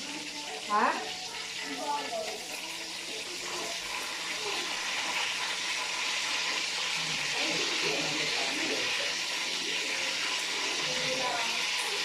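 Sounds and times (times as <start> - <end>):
chicken sizzling in a pan: 0.0 - 12.0
faint voices: 0.0 - 12.0.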